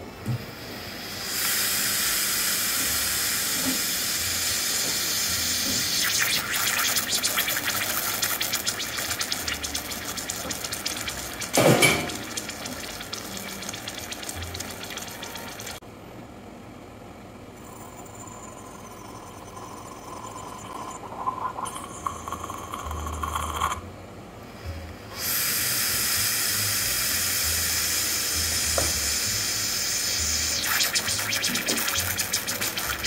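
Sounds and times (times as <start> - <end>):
espresso machine hissing: 0.3 - 15.8, 17.7 - 23.8, 25.2 - 33.0.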